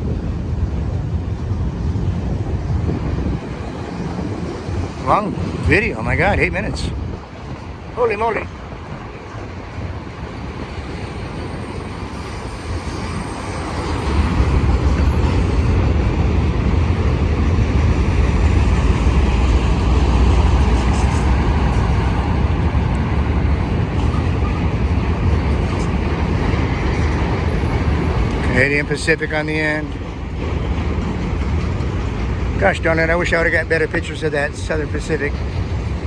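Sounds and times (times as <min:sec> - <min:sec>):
freight cars rumbling on rails: 0:00.0 - 0:36.0.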